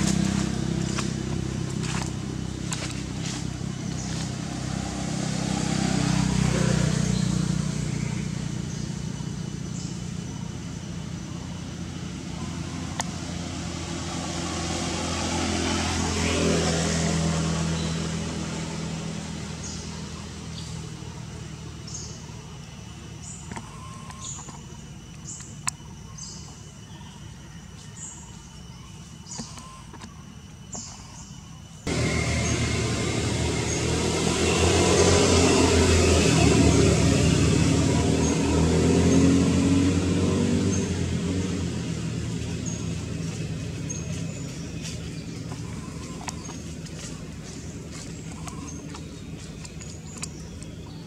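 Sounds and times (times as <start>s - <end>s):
low engine-like rumble: 0.0s - 51.0s.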